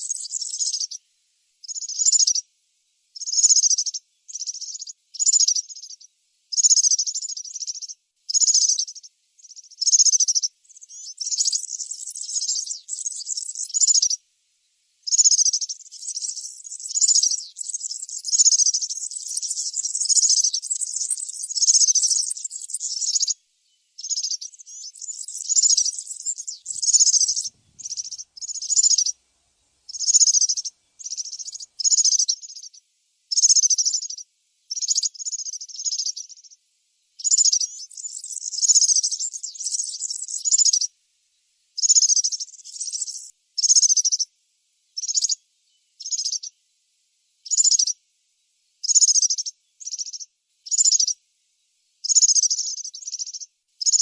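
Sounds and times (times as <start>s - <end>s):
small bird singing high song: 0.0s - 2.5s, 3.1s - 40.9s, 41.7s - 44.3s, 44.9s - 46.6s, 47.4s - 48.0s, 48.7s - 54.0s.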